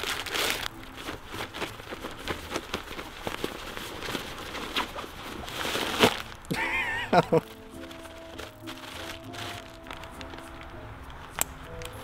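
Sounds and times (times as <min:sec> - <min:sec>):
nylon sack rustling: 0:00.0 - 0:11.6
plastic packaging crinkling: 0:00.0 - 0:12.0.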